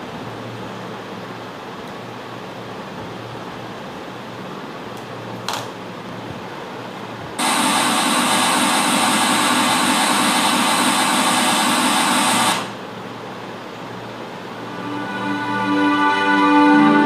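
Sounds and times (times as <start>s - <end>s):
tv static hiss: 0.0s - 17.0s.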